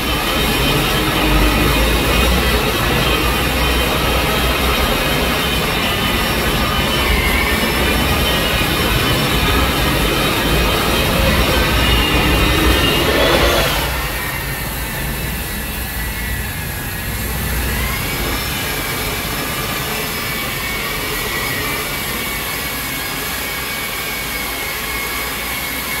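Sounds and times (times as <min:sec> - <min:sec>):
drywall sanders motor whine: 0:00.0 - 0:26.0.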